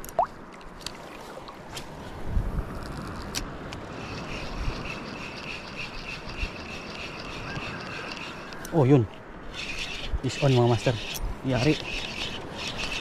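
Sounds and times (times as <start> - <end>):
wind rumbling on microphone: 1.1 - 13.0.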